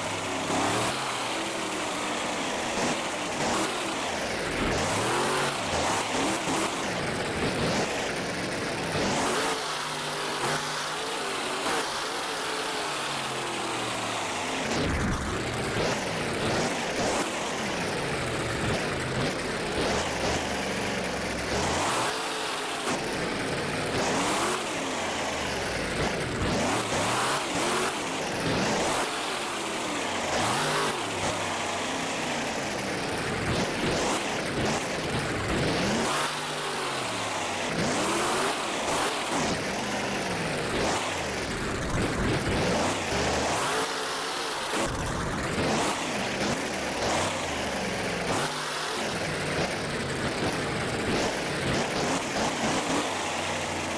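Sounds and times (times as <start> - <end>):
truck engine revving hard: 0.0 - 53.9.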